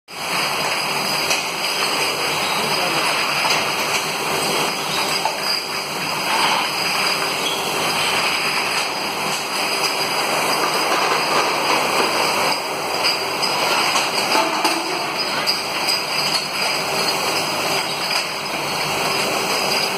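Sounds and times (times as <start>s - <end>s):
machine noise: 0.1s - 19.9s.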